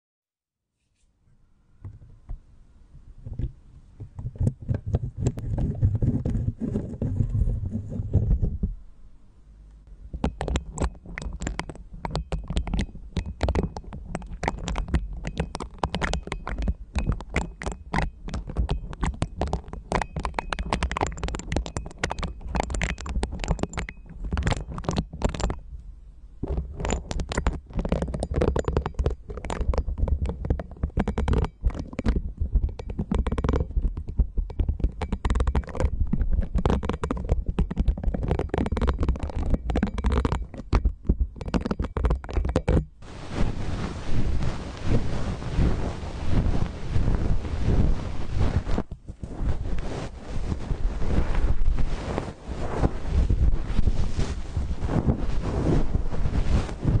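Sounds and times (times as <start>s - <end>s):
brush scratching microphone grille: 4.8s - 8.4s, 10.2s - 25.5s, 26.4s - 57.0s.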